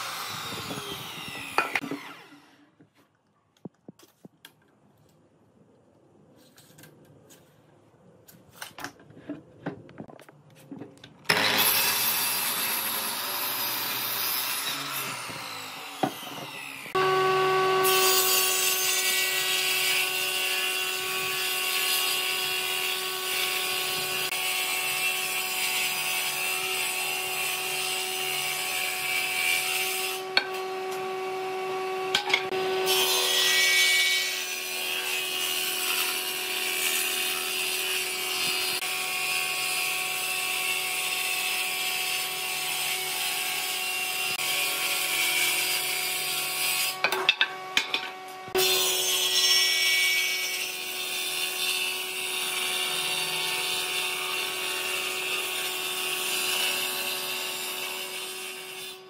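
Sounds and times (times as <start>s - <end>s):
power saw cutting wood: 0.0s - 2.8s, 11.3s - 59.0s.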